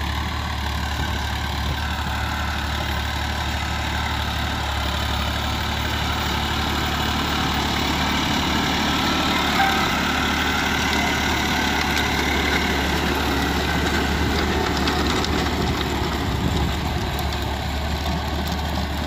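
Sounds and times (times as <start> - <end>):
tractor diesel engine running: 0.0 - 19.0
rotavator churning soil: 0.1 - 19.0.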